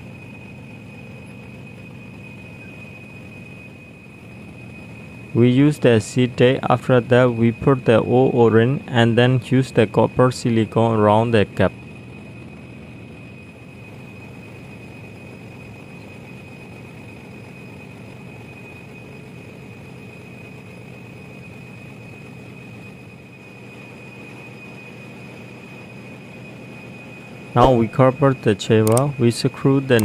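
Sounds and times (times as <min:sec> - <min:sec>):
generator engine drone: 0:00.0 - 0:30.0
high whine: 0:00.0 - 0:30.0.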